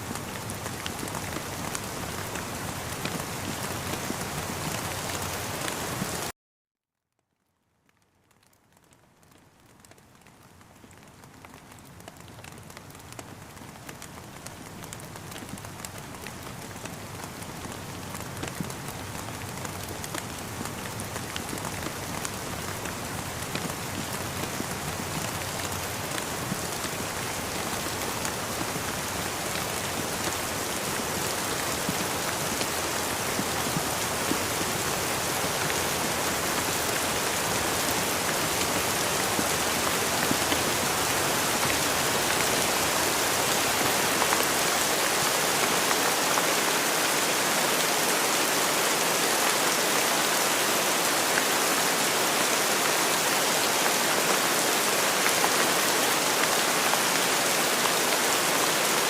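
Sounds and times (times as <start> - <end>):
steady rain falling: 0.0 - 6.3, 7.2 - 59.0.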